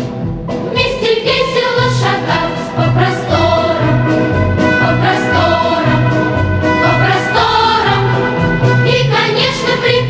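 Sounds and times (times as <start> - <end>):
song with sung vocals: 0.6 - 10.0.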